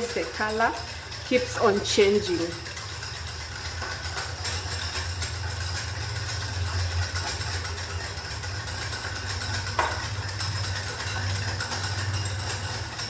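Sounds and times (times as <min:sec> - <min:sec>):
whisk clicking against bowl: 0:00.0 - 0:13.0.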